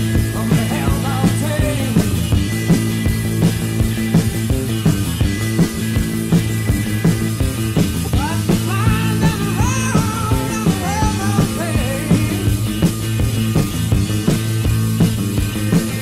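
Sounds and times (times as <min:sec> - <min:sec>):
bass and drums beat: 0:00.0 - 0:16.0.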